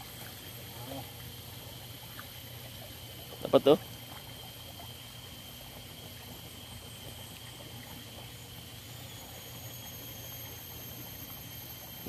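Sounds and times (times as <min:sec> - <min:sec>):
low steady hum: 0:00.0 - 0:12.0
thin high whine: 0:00.0 - 0:12.0.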